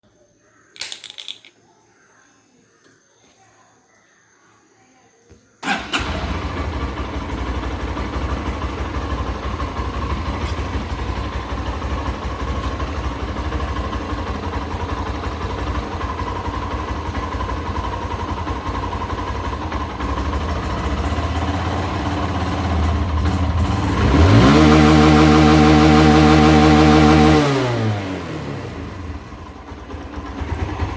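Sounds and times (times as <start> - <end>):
motorcycle engine idling and revving: 5.6 - 30.9.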